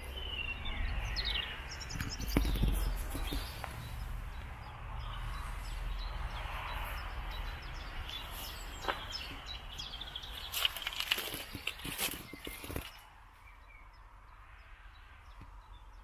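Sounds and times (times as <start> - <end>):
birds chirping: 0.0 - 16.0
steady outdoor hiss: 0.0 - 16.0.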